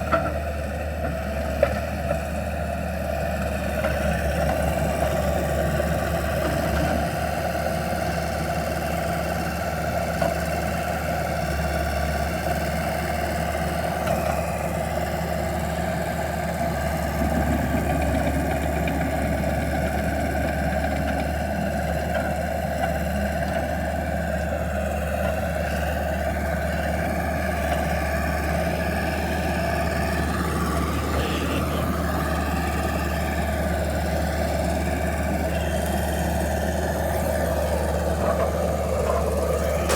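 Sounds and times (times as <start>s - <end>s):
skid steer engine running: 0.0s - 39.9s.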